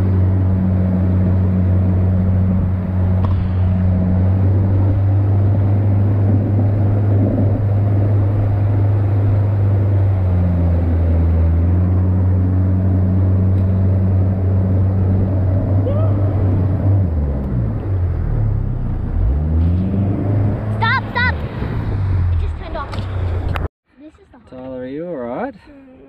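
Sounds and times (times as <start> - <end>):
boat engine droning: 0.0 - 22.4
wind: 0.0 - 26.0.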